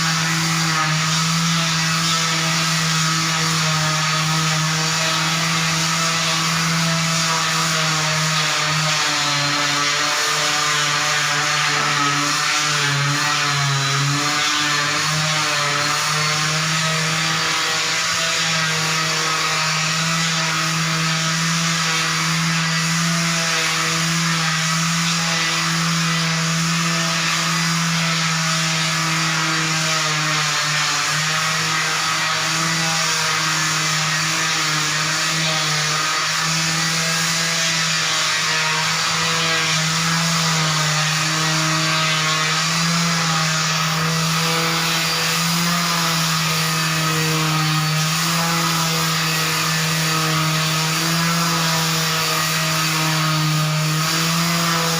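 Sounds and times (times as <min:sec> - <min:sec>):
floor sanding machine running: 0:00.0 - 0:54.9.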